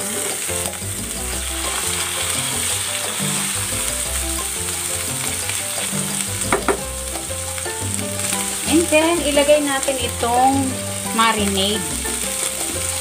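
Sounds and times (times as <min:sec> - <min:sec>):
meat sizzling in frying pan: 0:00.0 - 0:13.0.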